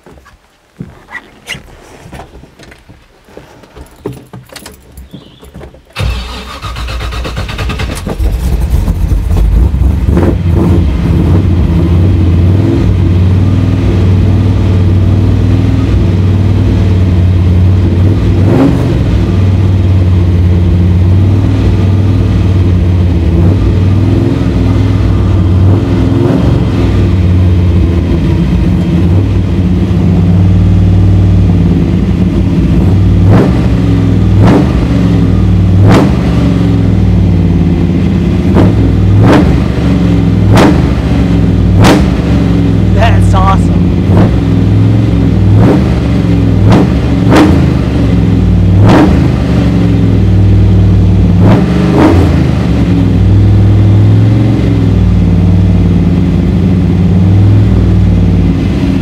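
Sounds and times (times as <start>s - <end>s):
v eight engine revving: 6.0s - 59.0s.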